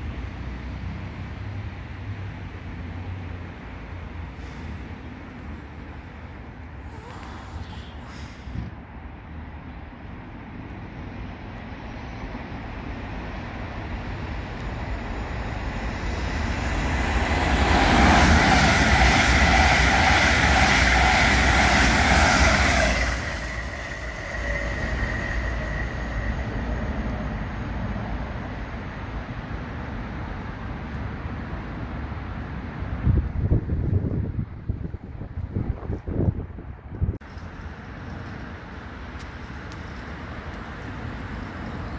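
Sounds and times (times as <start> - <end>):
train passing at speed: 0.0 - 6.9, 7.6 - 41.9.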